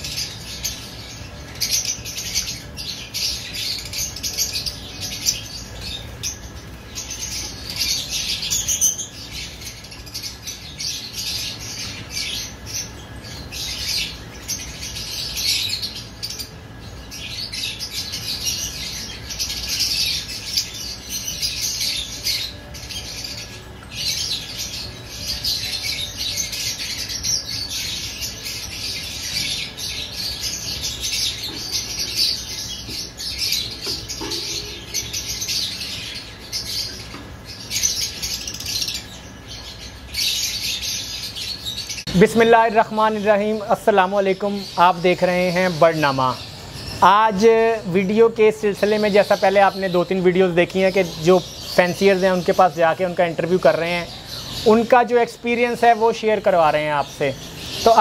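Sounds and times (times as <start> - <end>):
birds chirping and chattering: 0.0 - 58.0.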